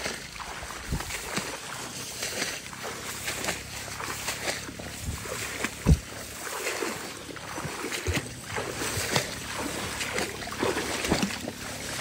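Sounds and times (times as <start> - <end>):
grass swishing against legs: 0.8 - 12.0.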